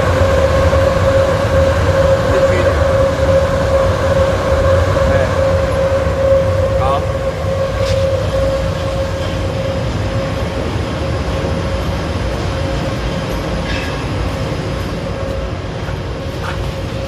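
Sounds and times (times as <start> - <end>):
dryer machine rumble and hum: 0.0 - 17.0.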